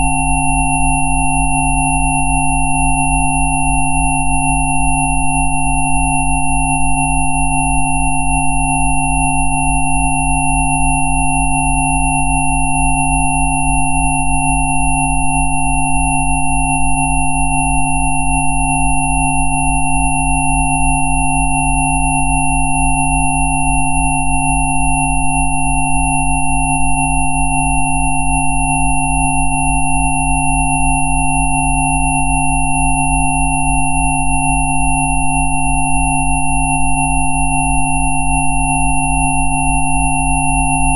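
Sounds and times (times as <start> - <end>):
steady electronic sine tones: 0.0 - 40.9.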